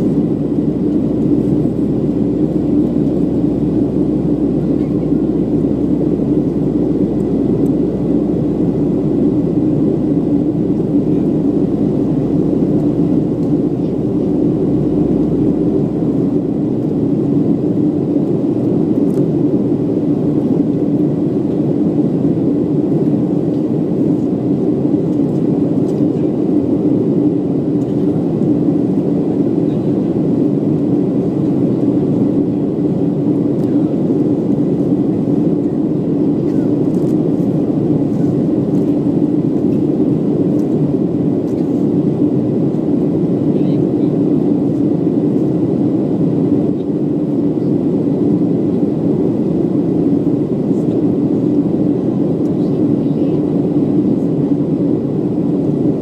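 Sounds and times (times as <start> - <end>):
jet engine drone and airflow: 0.0 - 56.0
low rumble: 0.0 - 56.0.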